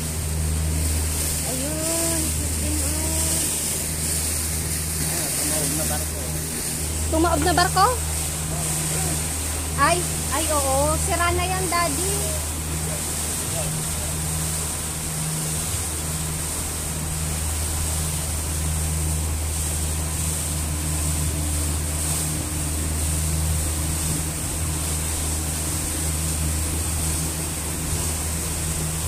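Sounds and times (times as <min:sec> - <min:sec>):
speedboat engine drone: 0:00.0 - 0:29.0
wind and water rushing: 0:00.0 - 0:29.0.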